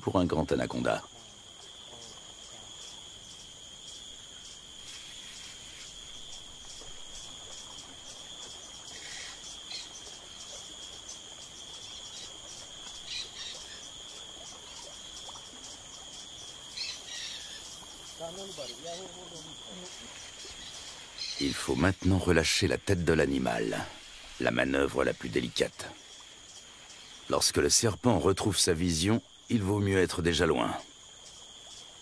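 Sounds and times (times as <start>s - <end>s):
insects trilling: 0.0s - 32.0s
pulsing insect chorus: 0.0s - 32.0s.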